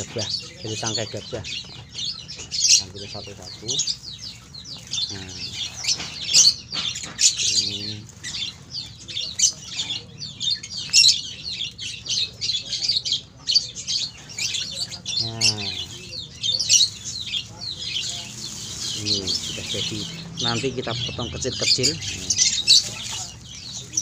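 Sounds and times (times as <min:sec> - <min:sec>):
birds chirping and screeching: 0:00.0 - 0:24.0.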